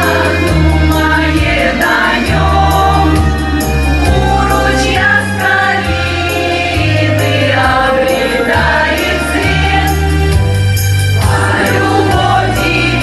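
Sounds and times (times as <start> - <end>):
vocal group singing: 0.0 - 10.4, 11.2 - 13.0
instrumental accompaniment: 0.0 - 13.0.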